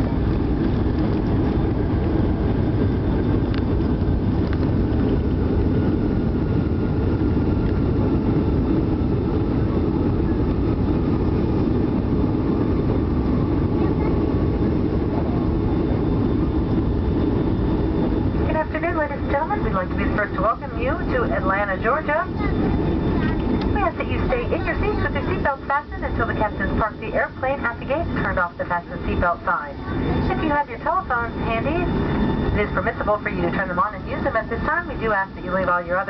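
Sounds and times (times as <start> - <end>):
airplane cabin engine rumble: 0.0 - 36.0
faint engine whine: 0.0 - 36.0.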